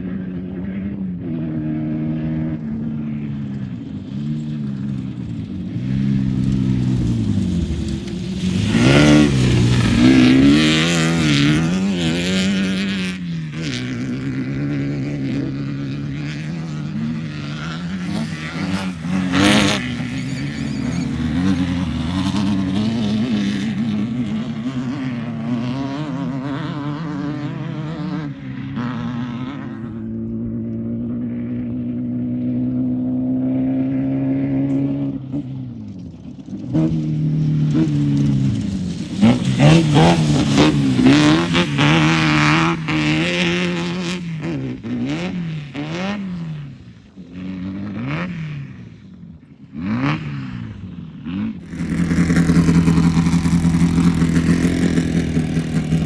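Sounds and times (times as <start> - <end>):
race car engine revving: 0.0 - 35.8, 36.6 - 46.4, 49.8 - 56.0.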